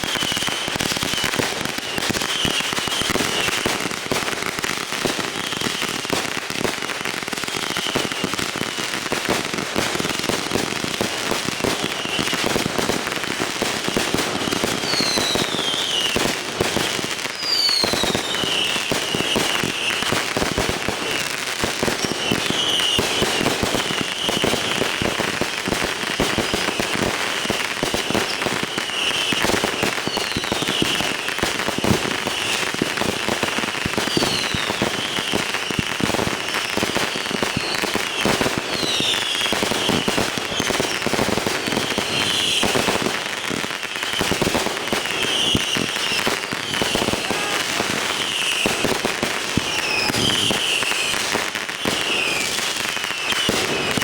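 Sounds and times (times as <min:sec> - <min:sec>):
falling firework whistles: 0:00.0 - 0:54.0
firecrackers crackling: 0:00.0 - 0:54.0.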